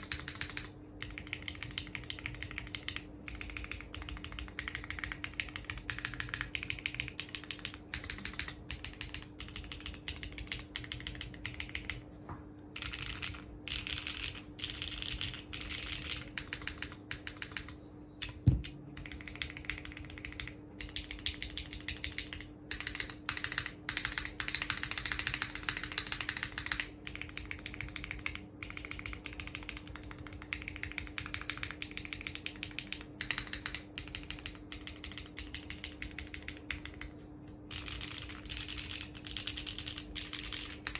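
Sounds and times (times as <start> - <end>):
fast keyboard typing clacks: 0.0 - 12.0, 12.8 - 40.9.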